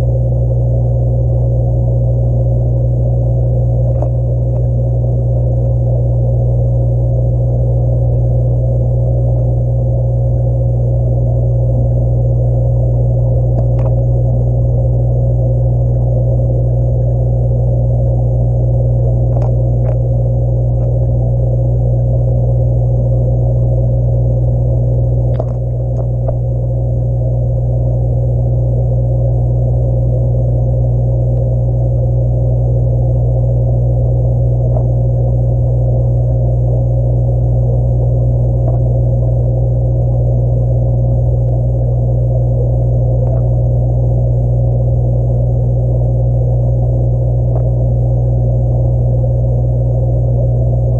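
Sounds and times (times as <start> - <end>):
underwater aquarium hum: 0.0 - 50.9.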